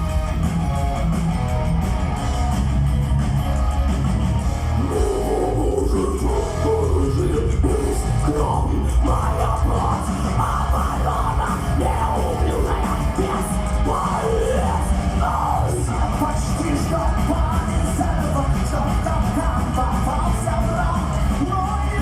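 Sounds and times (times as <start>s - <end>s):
bass guitar: 0.0s - 22.0s
drums: 0.0s - 22.0s
electric guitars: 0.0s - 22.0s.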